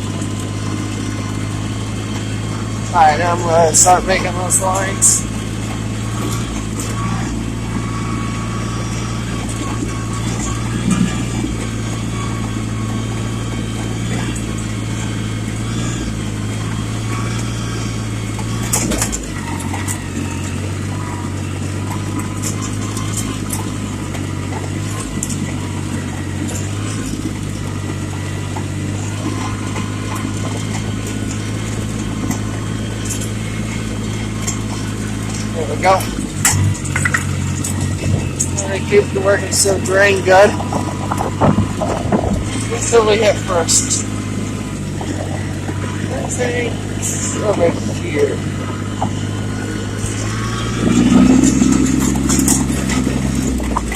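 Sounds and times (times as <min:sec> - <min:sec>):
diesel tractor engine running: 0:00.0 - 0:53.9.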